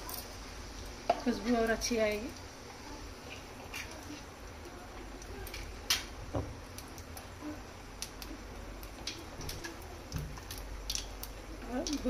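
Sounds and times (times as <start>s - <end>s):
seeds frying in oil crackling: 0.0s - 12.0s.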